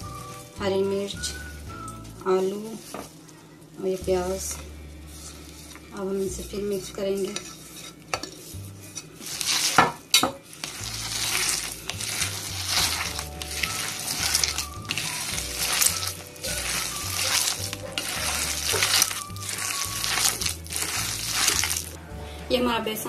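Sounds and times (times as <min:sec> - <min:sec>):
hand mixing vegetables in bowl: 0:00.0 - 0:03.2, 0:04.0 - 0:22.1.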